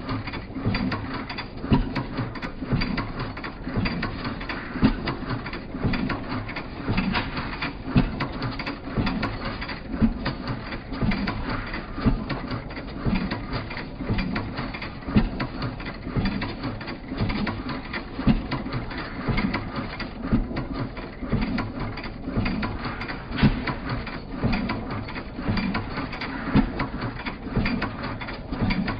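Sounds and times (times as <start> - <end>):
machine clattering: 0.0 - 28.9.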